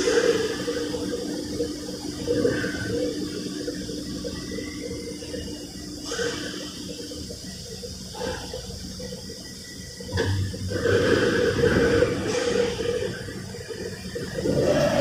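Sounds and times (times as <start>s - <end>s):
workshop machinery hissing: 0.0s - 15.0s.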